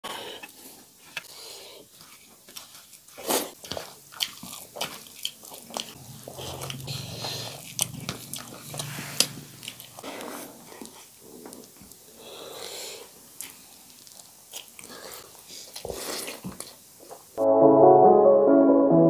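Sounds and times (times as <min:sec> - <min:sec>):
hands squishing wet rice: 0:00.2 - 0:16.8.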